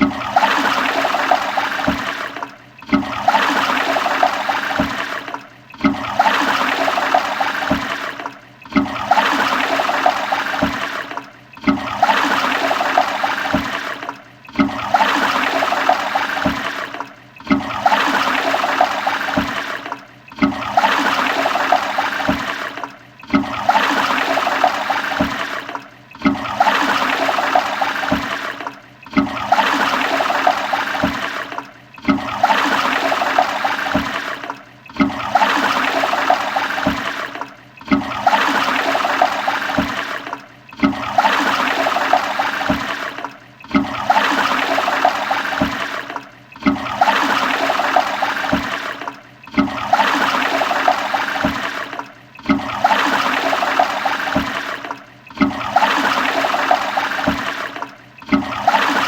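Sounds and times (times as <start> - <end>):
toilet flushing: 0.0 - 59.0.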